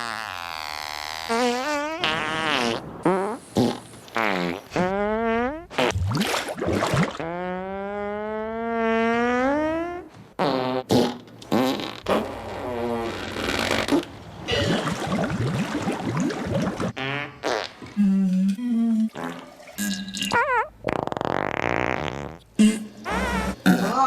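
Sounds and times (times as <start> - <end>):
fart sounds: 0.0 - 24.0.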